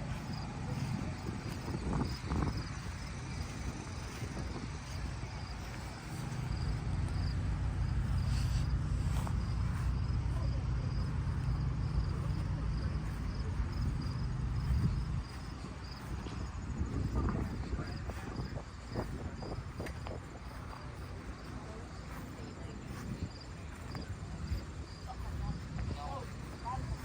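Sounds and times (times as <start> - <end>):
low engine running: 0.0 - 27.0
insect chirping: 0.1 - 27.0.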